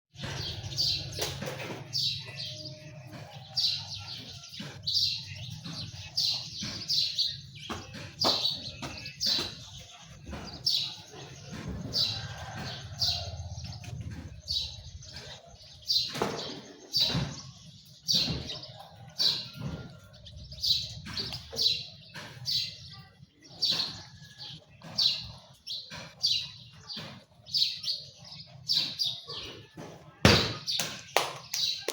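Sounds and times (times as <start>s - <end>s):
birds chirping: 0.1s - 31.9s.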